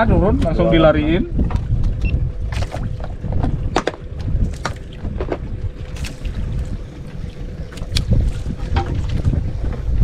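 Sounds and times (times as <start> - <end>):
faint steady hum: 0.0 - 10.0
wind buffeting microphone: 0.0 - 10.0.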